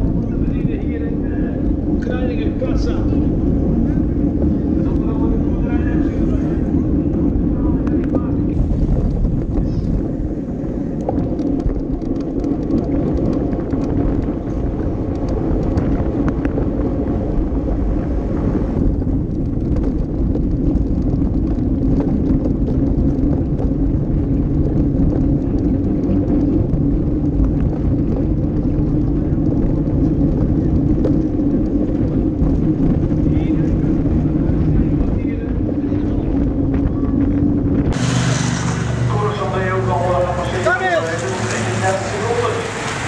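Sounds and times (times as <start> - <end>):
tyres rumbling on road: 0.0 - 43.0
wind rushing on microphone: 0.0 - 43.0.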